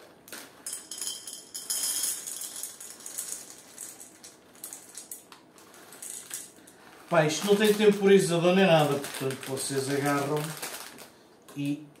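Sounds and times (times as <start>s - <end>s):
popcorn kernels pouring into cup: 0.2s - 11.1s.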